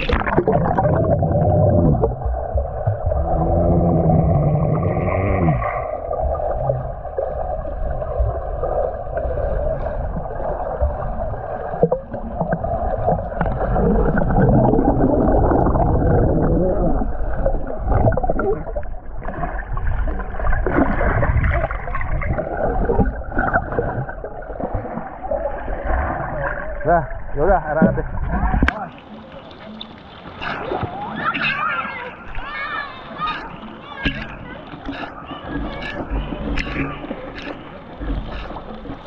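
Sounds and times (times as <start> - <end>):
muffled underwater churning and bubbling: 0.0 - 39.0.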